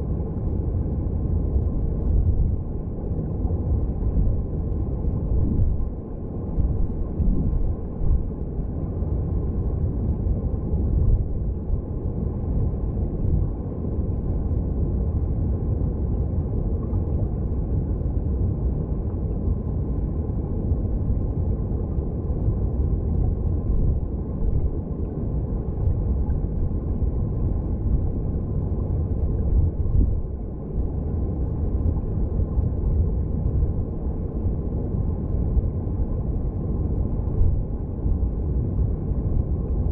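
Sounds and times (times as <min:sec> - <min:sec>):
underwater rumble of flowing water: 0:00.0 - 0:39.9.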